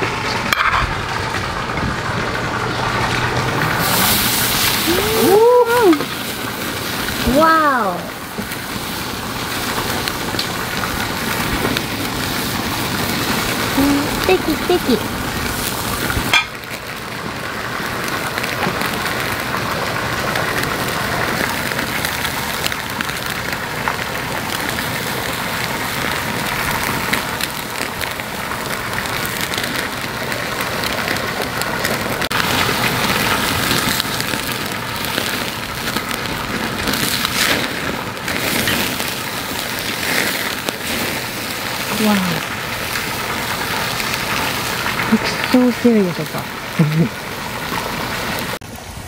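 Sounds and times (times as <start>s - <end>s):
food sizzling on a grill: 0.0s - 49.0s.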